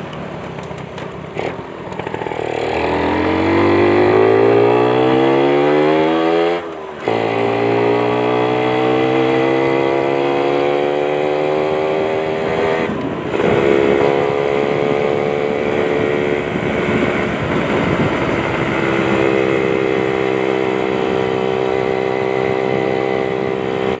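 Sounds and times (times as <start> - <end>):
motorcycle engine accelerating: 1.2 - 24.0.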